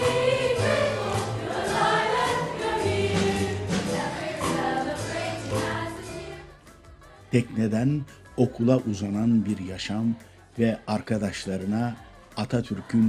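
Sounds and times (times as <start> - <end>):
choral singing: 0.0 - 13.0.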